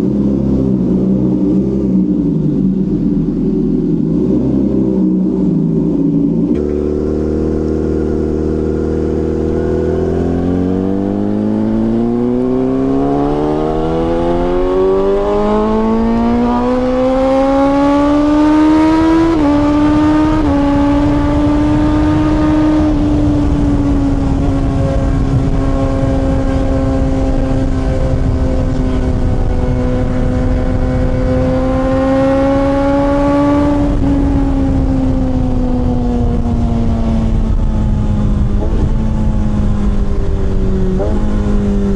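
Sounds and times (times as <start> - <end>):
low rush of wind: 0.0 - 41.9
motorcycle engine accelerating: 0.0 - 41.9.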